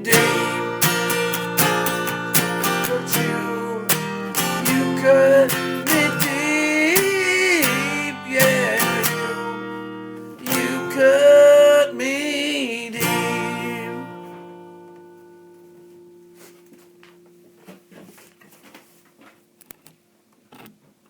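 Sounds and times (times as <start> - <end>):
strummed guitar: 0.0 - 18.6.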